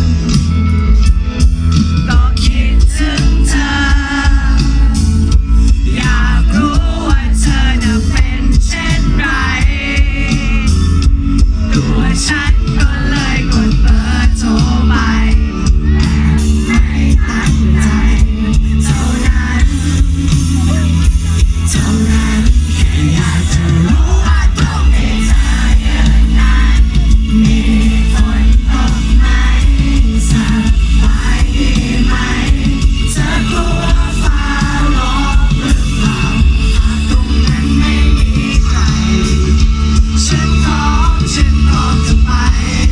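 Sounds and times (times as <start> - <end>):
rock band playing live: 0.0 - 42.9
person singing: 2.0 - 42.9.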